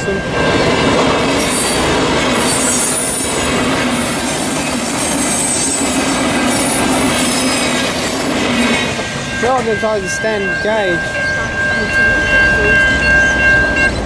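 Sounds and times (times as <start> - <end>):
high wheel squeal: 0.0 - 14.0
train passing at speed: 0.0 - 14.0.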